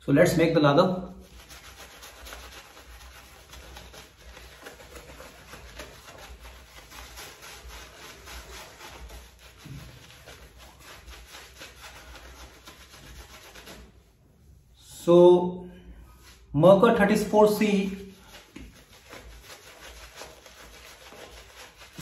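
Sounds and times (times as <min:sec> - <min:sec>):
shaving brush rubbing lather: 0:00.3 - 0:14.6, 0:16.1 - 0:22.0.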